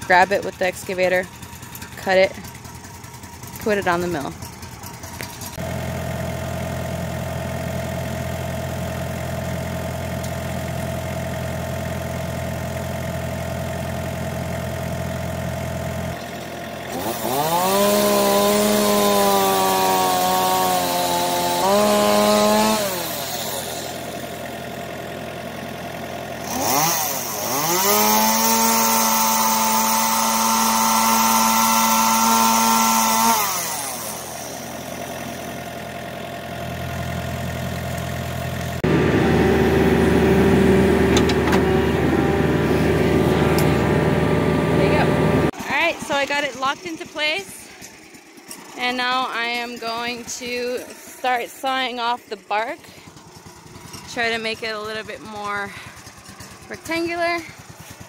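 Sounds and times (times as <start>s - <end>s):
chainsaw engine idling: 0.0s - 58.0s
chainsaw revving: 0.0s - 58.0s.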